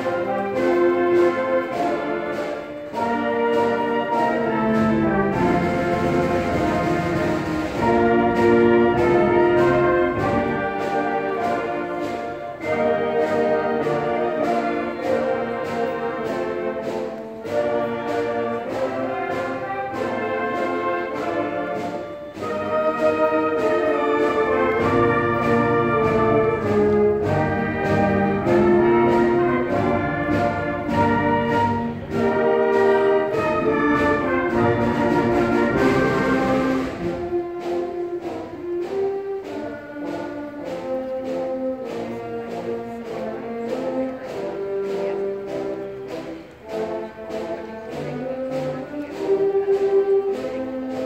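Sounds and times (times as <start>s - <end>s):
orchestral music with brass: 0.0s - 51.0s.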